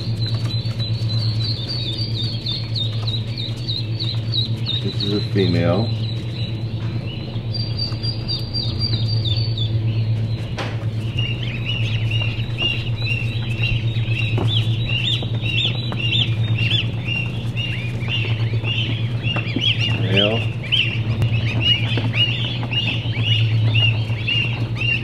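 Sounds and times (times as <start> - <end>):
chicks peeping: 0.0 - 25.0
steady low hum: 0.0 - 25.0.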